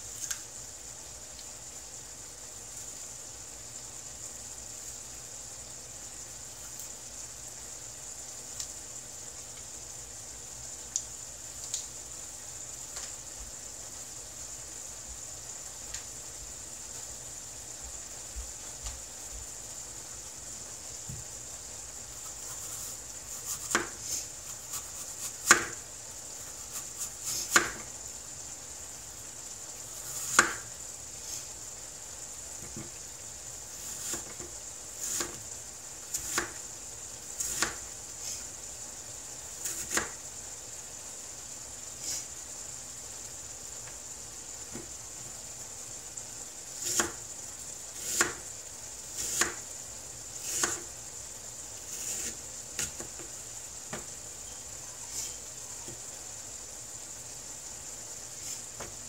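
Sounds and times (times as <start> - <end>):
high hiss: 0.0 - 59.0.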